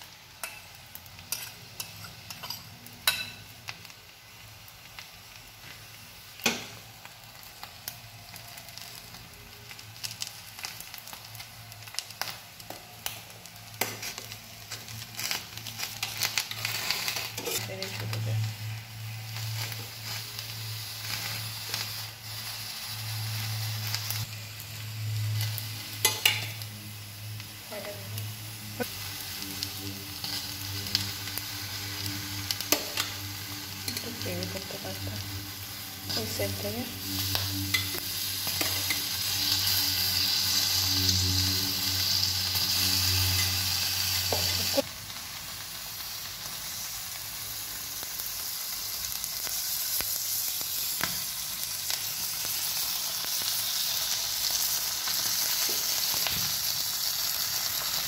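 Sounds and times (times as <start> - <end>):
food sizzling on a hot plate: 0.0 - 58.0.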